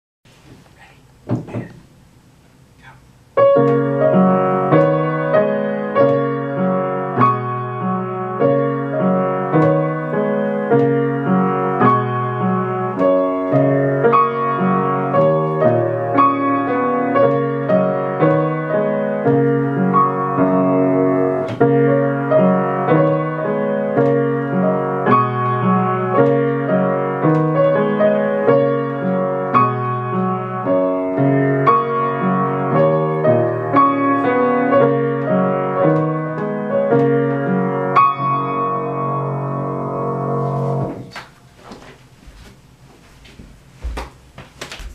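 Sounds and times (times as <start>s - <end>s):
solo piano piece: 3.3s - 41.2s.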